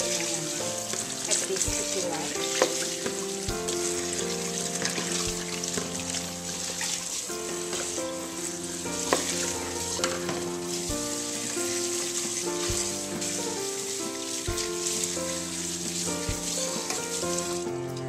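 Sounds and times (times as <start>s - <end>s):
tap water splashing into a colander: 0.0s - 17.6s
background music: 0.0s - 18.0s
hands rubbing rice: 0.0s - 18.0s.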